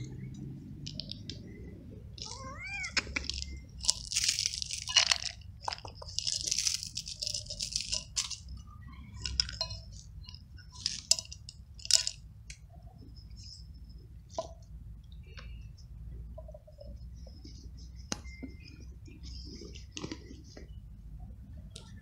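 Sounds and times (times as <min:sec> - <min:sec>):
dry cat food rattling: 0:00.0 - 0:20.8.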